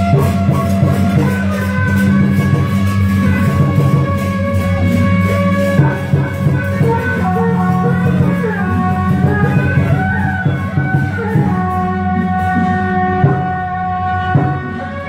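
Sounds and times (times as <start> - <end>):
instrumental music melody: 0.0 - 15.0.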